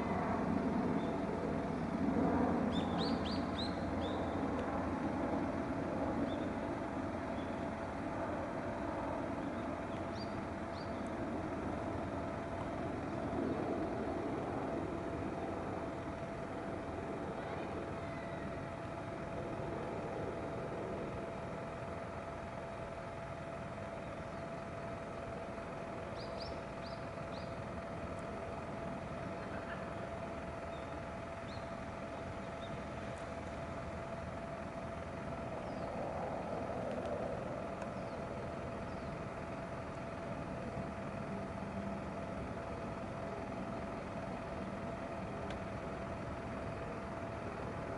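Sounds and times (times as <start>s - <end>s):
distant engine drone: 0.0s - 47.9s.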